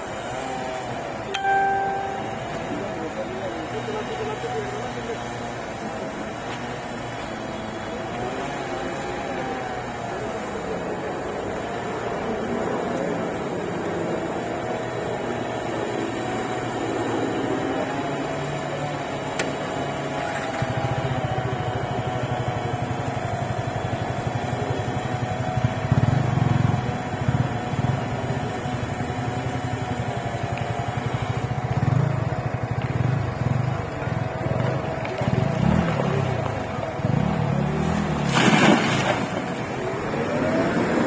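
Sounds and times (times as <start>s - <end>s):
engine pulsing rumble: 0.0s - 41.0s.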